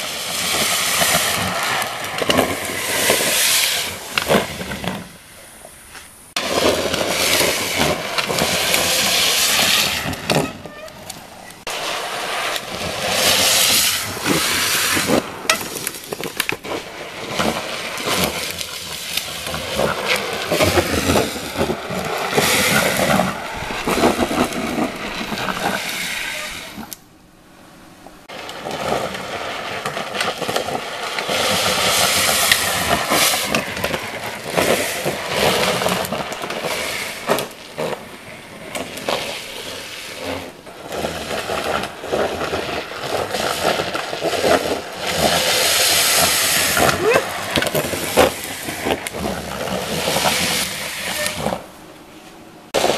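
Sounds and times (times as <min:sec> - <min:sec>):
wheels scraping on asphalt: 0:00.0 - 0:52.9.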